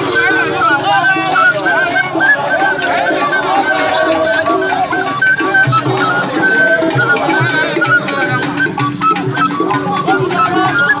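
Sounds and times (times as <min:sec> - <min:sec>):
melody of short held notes: 0:00.0 - 0:11.0
rattling percussion: 0:00.0 - 0:11.0
voices: 0:00.0 - 0:11.0.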